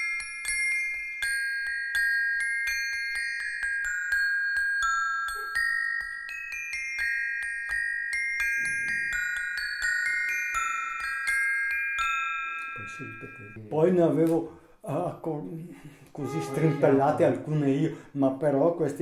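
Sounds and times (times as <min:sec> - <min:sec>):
metal bars melody: 0:00.0 - 0:13.8, 0:16.2 - 0:17.9.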